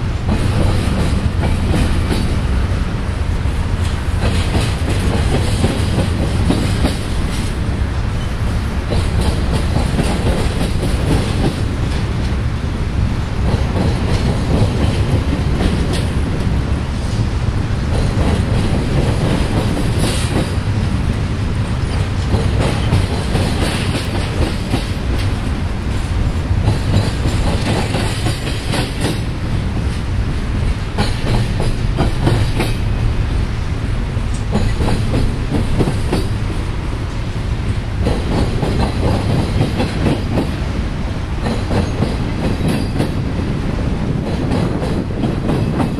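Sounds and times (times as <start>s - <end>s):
freight train rumbling past: 0.0s - 45.9s
wheels clacking over rail joints: 0.2s - 2.5s, 3.5s - 12.4s, 13.4s - 16.6s, 17.9s - 21.0s, 21.6s - 33.1s, 33.9s - 40.7s, 41.3s - 45.9s.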